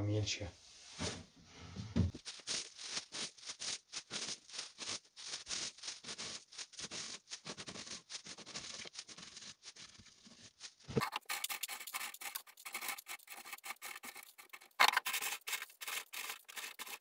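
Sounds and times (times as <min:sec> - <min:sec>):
plastic bag rustling: 0:02.2 - 0:17.0
seeds clicking and rattling: 0:02.2 - 0:17.0.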